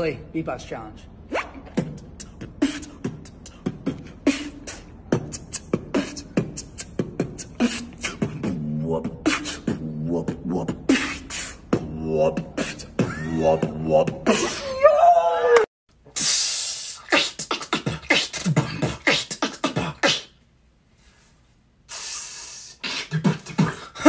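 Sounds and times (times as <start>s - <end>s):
person beatboxing: 1.3s - 14.6s, 16.2s - 20.4s, 21.9s - 24.0s.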